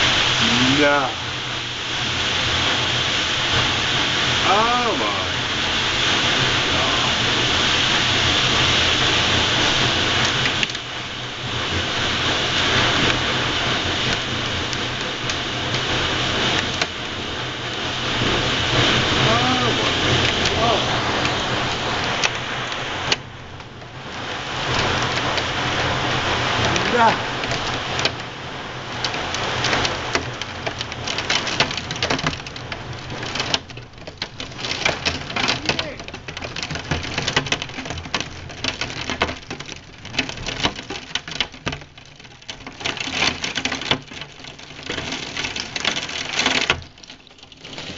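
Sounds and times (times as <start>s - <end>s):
hail and rain falling: 0.0s - 47.9s
hailstones striking: 0.0s - 47.9s.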